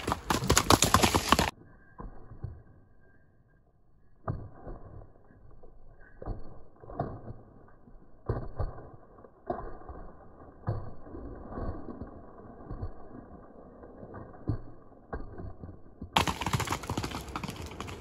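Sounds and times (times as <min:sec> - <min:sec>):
horse hooves on dirt: 0:00.0 - 0:02.6, 0:04.2 - 0:18.0.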